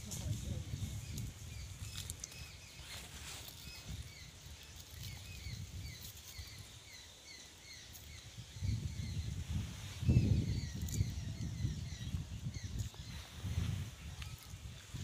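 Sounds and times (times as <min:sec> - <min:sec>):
outdoor background noise: 0:00.0 - 0:15.0
small bird chirping: 0:00.2 - 0:15.0.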